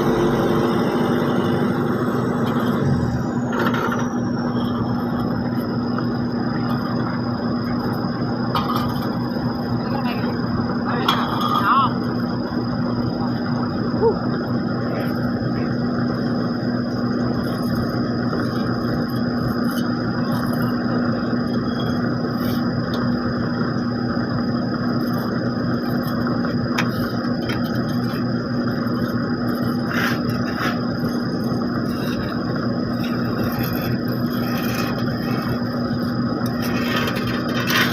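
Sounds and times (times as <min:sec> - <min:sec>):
heavy machinery engines humming: 0:00.0 - 0:37.9.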